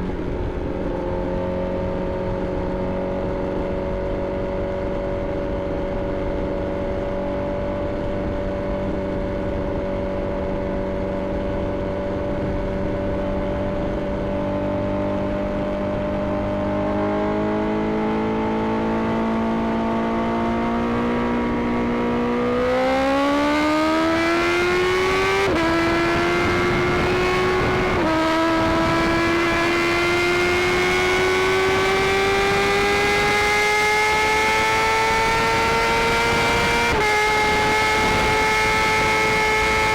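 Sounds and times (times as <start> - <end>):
sport bike engine accelerating: 0.0 - 39.9
wind rush: 0.0 - 39.9.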